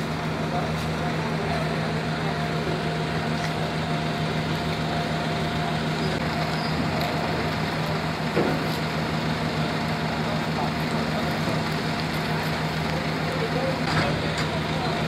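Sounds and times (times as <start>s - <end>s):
large engine idling: 0.0s - 15.0s.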